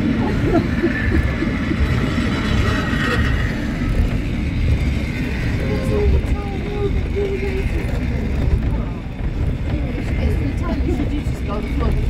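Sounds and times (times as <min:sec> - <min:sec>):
railway car wheels rumbling on track: 0:00.0 - 0:12.0.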